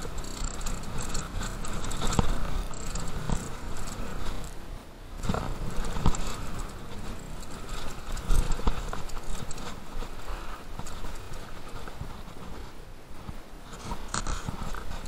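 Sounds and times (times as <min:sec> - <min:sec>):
bike tyres rumbling over dirt: 0:00.0 - 0:12.7.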